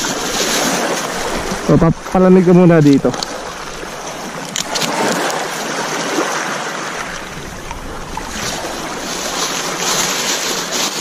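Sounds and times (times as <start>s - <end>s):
sea water rushing: 0.0s - 11.0s
wind: 0.0s - 11.0s.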